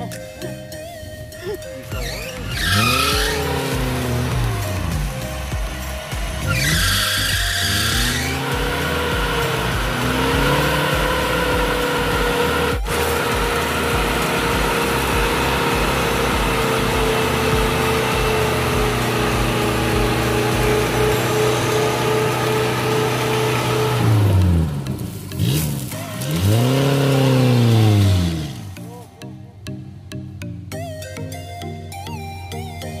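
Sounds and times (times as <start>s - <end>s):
vehicle engine running and revving: 1.8s - 28.9s.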